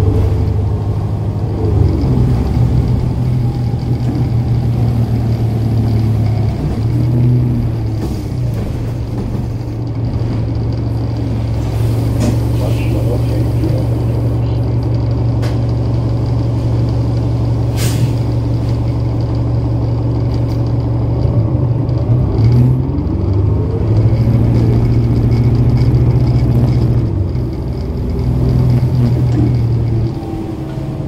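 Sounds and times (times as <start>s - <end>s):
bus diesel engine droning: 0.0s - 31.0s.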